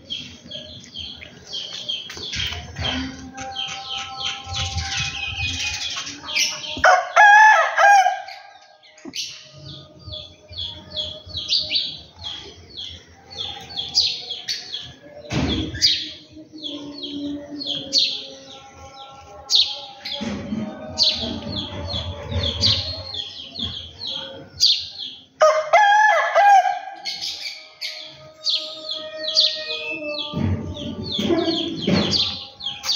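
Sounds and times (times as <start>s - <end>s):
small birds chirping: 0.0s - 6.9s, 8.3s - 25.4s, 27.0s - 32.9s.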